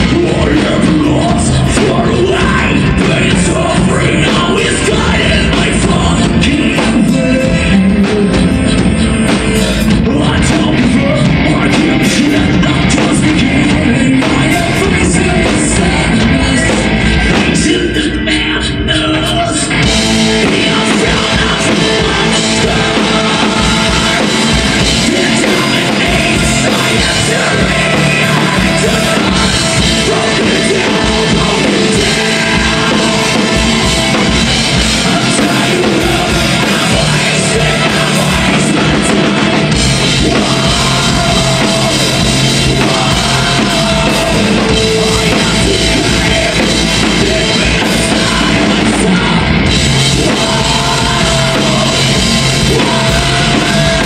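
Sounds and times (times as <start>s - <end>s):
harsh shouted vocals: 0.0s - 8.6s, 9.5s - 54.0s
death metal band playing: 0.0s - 54.0s.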